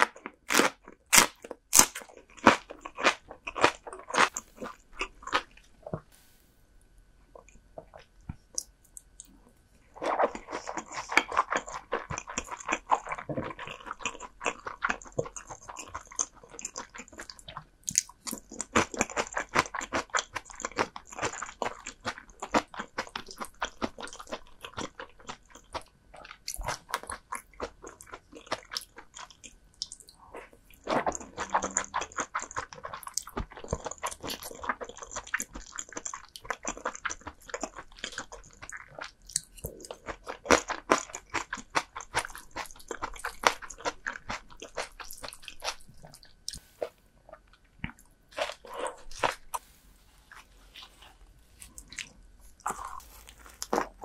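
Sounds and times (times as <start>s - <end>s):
person chewing crunchy food: 0.0s - 6.4s, 7.3s - 54.0s.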